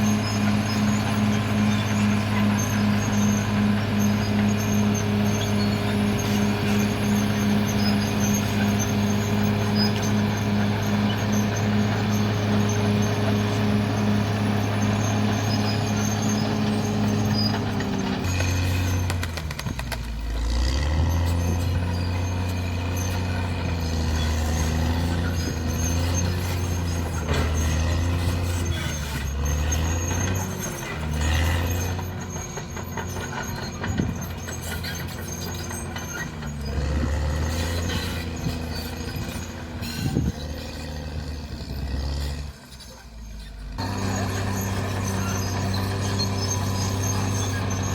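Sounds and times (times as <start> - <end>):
bulldozer diesel engine lugging: 0.0 - 47.9
running gear squeals and knocks: 0.0 - 47.9.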